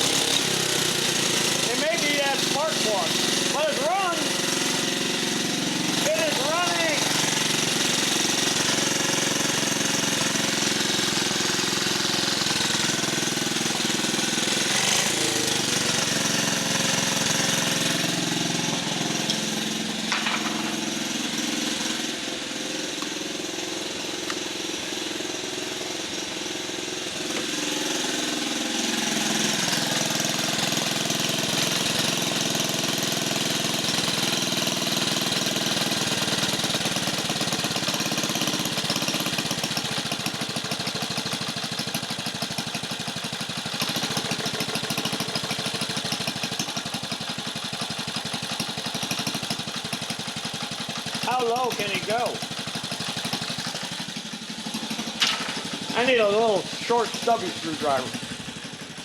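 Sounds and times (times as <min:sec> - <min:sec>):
engine running with rapid knocking: 0:00.0 - 0:59.0.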